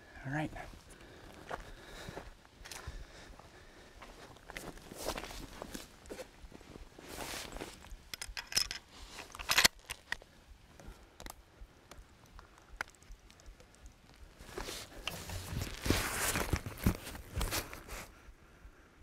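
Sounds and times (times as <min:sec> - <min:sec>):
footsteps with clicks and crunches: 0:00.6 - 0:18.1.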